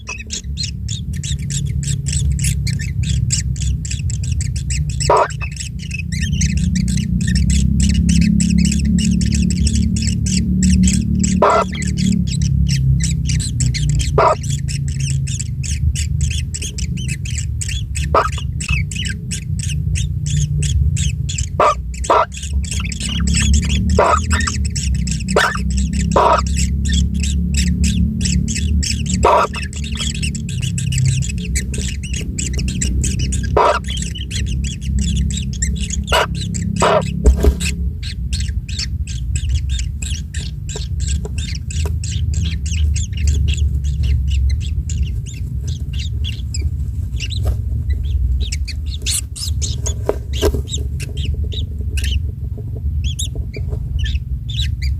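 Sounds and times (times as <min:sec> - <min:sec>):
bird chicks squawking: 0:00.0 - 0:54.9
steady low rumble: 0:00.0 - 0:54.9.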